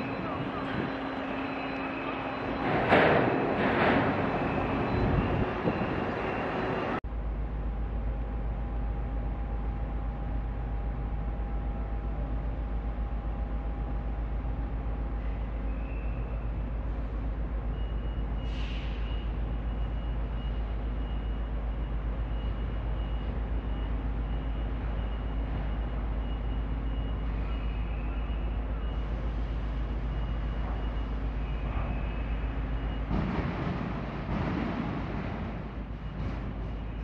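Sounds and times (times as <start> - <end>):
idling diesel machinery rumble: 4.4 - 37.0.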